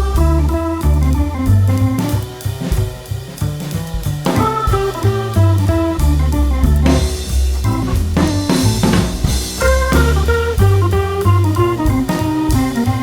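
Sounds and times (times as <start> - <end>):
guitar bass and drums music: 0.0 - 13.0.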